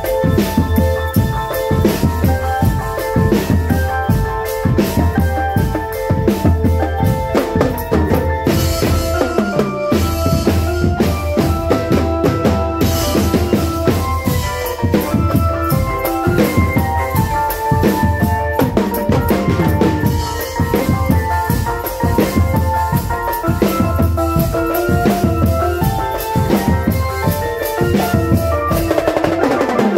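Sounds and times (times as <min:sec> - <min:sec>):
bass and snare drumming: 0:00.0 - 0:29.9
repeating melody: 0:00.0 - 0:29.9.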